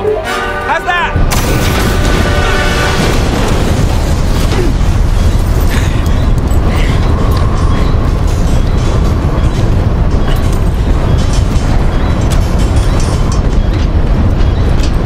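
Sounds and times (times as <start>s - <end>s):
dramatic film score: 0.0s - 15.0s
wind and engine rush: 0.9s - 15.0s.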